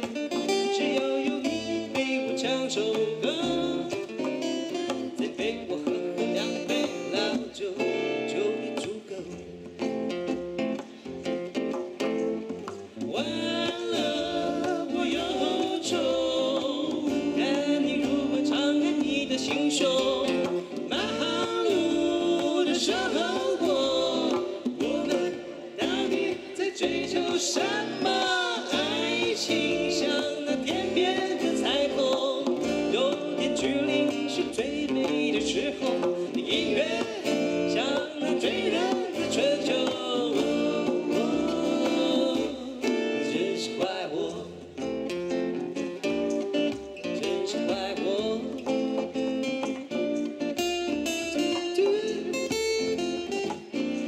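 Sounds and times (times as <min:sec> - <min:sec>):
man singing through pa: 0:00.0 - 0:10.2, 0:12.8 - 0:44.9, 0:46.3 - 0:50.0, 0:51.0 - 0:53.6
acoustic guitar strumming: 0:00.0 - 0:54.0.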